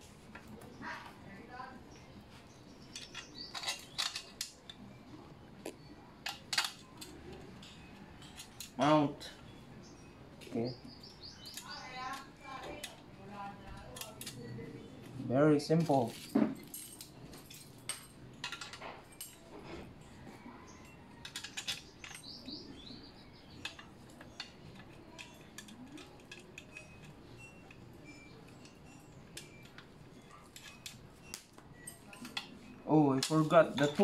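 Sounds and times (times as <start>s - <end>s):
light metallic clicks and clinks: 2.7s - 13.0s, 15.8s - 34.0s.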